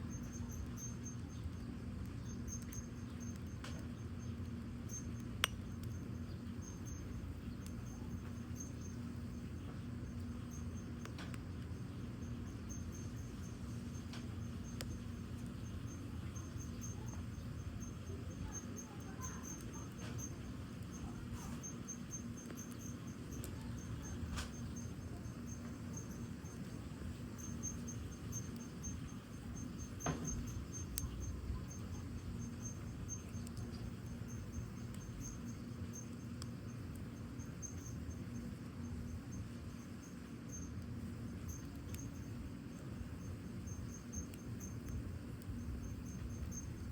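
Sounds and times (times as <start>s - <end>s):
crickets chirping: 0.0s - 46.9s
fire crackling and popping: 0.0s - 46.9s.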